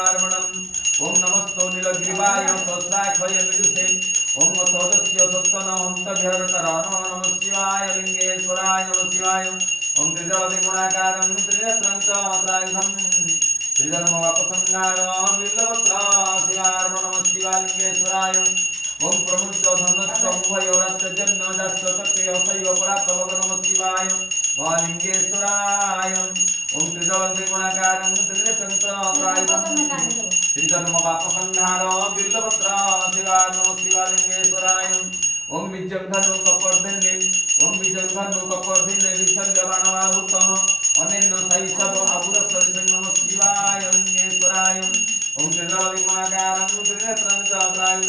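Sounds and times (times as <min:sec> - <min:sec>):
man chanting: 0:00.0 - 0:48.0
small bell jingling: 0:00.0 - 0:48.0.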